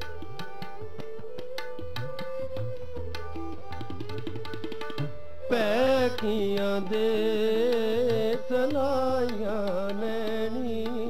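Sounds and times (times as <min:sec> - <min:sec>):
harmonium melody: 0:00.0 - 0:11.0
tabla playing: 0:00.0 - 0:11.0
tanpura drone: 0:00.0 - 0:11.0.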